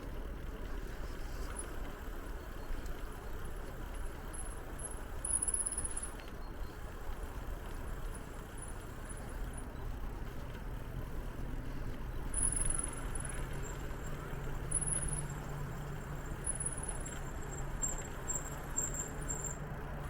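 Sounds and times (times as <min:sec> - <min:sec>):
bicycle tyres rolling: 0:00.0 - 0:20.0
bike rattling: 0:00.0 - 0:20.0.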